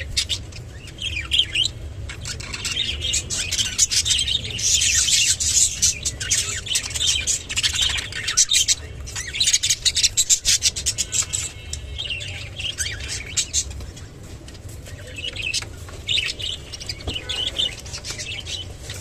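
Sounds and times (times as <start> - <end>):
budgerigars chattering: 0.0 - 14.2, 15.0 - 19.0.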